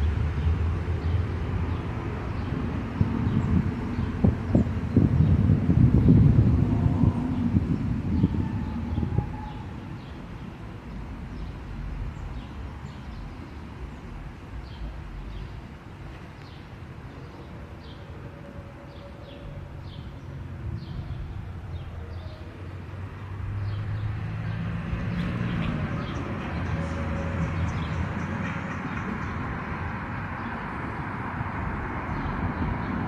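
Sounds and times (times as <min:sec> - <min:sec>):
outdoor background rumble: 0:00.0 - 0:33.0.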